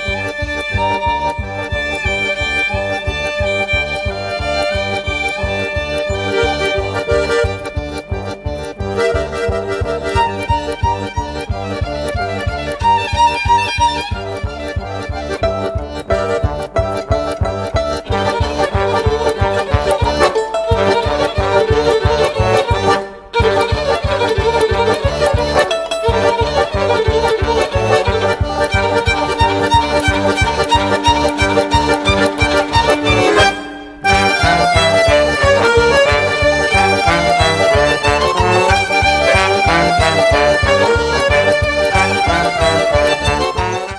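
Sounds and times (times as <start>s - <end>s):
accordion music over bass beat: 0.0s - 43.9s.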